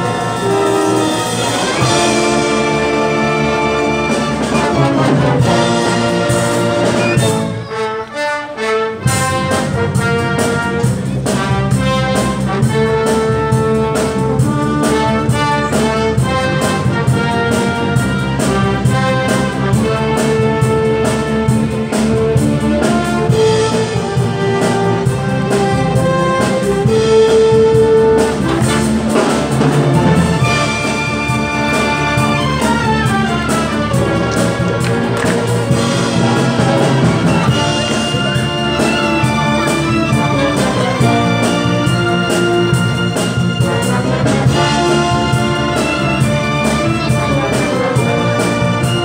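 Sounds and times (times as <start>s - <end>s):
symphony orchestra playing: 0.0s - 49.0s.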